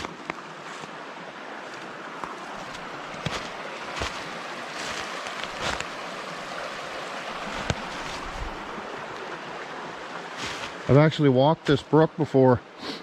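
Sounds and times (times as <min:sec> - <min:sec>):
brook running: 0:00.0 - 0:12.4.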